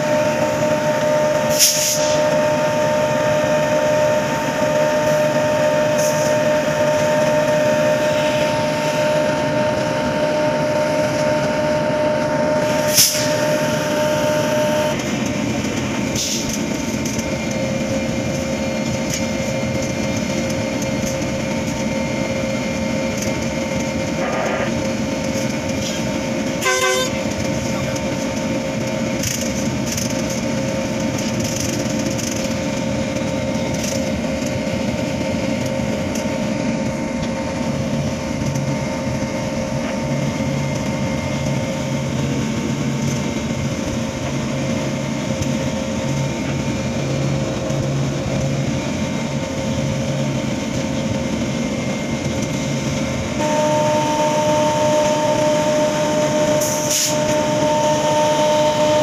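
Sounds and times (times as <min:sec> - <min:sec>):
constant whine: 0:00.0 - 0:59.0
train rumble and rattle: 0:00.0 - 0:59.0.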